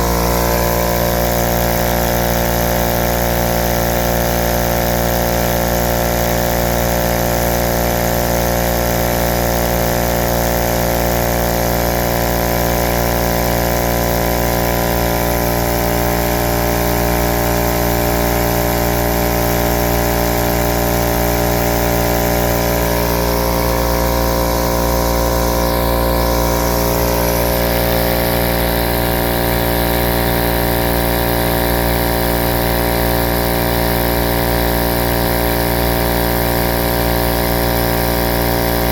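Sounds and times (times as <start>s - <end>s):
electric air compressor running: 0.0s - 38.9s.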